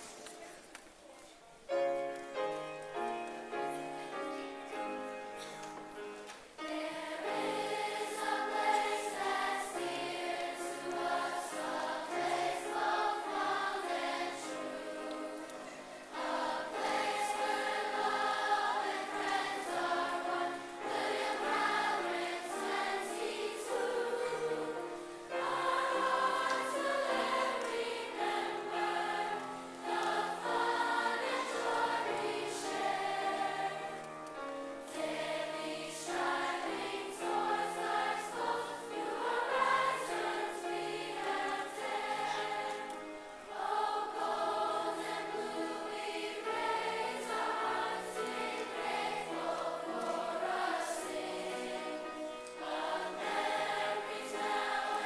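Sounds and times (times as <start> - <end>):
choir singing a hymn: 1.9 - 55.0.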